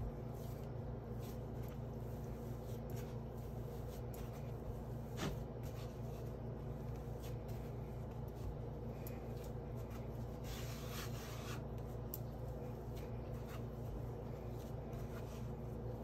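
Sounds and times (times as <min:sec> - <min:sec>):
hands rubbing dough on board: 0:00.0 - 0:16.0
steady low hum: 0:00.0 - 0:16.0.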